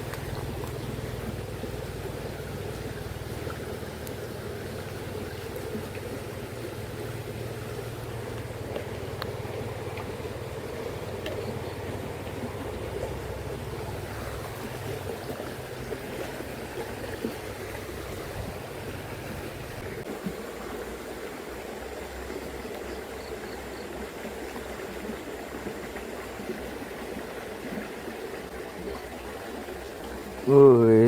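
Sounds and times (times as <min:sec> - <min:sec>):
river current flowing: 0:00.0 - 0:31.0.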